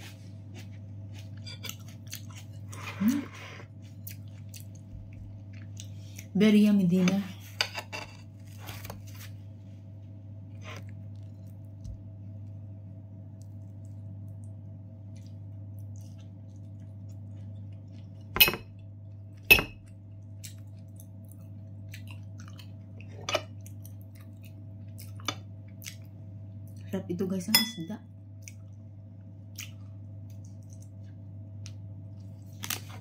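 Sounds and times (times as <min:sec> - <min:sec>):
low hum: 0:00.0 - 0:33.0
quiet chewing: 0:00.1 - 0:06.3, 0:10.5 - 0:12.6, 0:13.2 - 0:26.9, 0:28.4 - 0:33.0.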